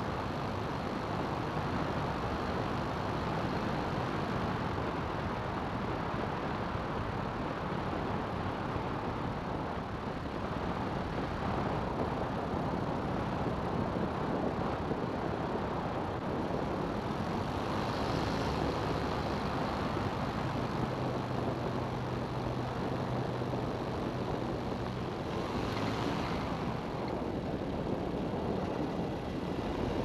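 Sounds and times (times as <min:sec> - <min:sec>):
aircraft engine and propeller: 0:00.0 - 0:30.0
wind noise: 0:00.0 - 0:30.0.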